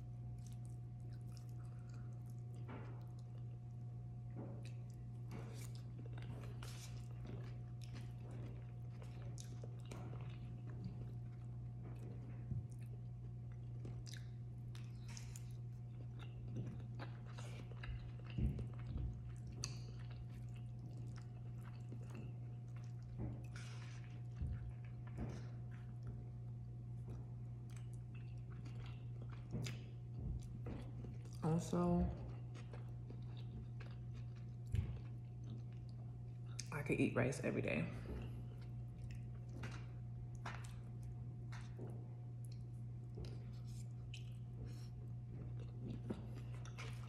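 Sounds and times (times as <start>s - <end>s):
wet chewing with crunches: 0.0s - 36.7s, 38.0s - 47.0s.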